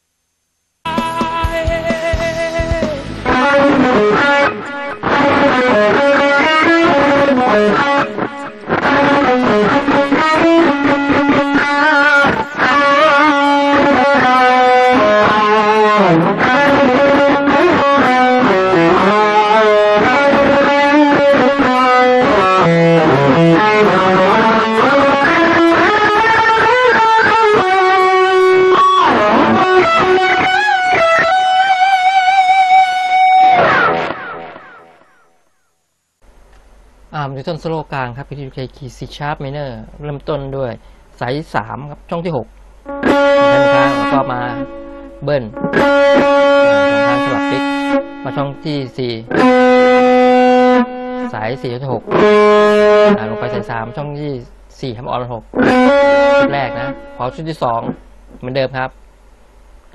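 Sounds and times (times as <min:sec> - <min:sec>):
overdriven electric guitar solo: 0:00.9 - 0:35.6, 0:42.8 - 0:54.4, 0:55.5 - 0:58.1.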